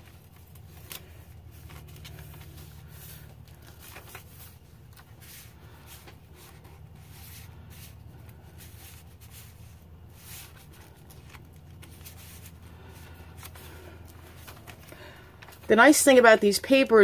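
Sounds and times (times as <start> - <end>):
paper rustling and sliding: 0.0 - 16.3.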